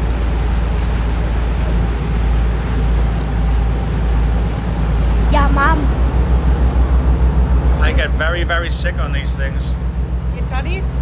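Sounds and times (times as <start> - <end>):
boat engines rumbling: 0.0 - 11.0
water wash: 0.0 - 11.0.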